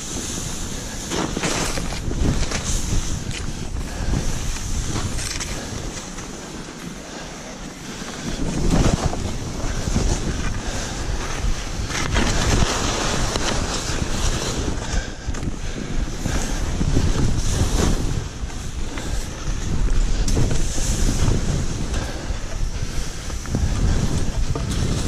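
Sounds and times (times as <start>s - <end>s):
skis hissing through powder snow: 0.0s - 25.0s
wind rushing over microphone: 0.0s - 25.0s.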